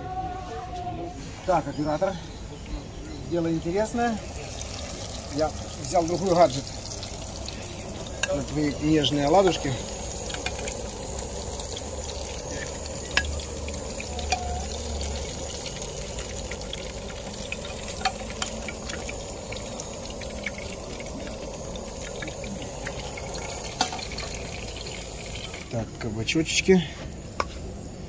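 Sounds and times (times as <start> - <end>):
fritters sizzling in oil: 3.5 - 28.0.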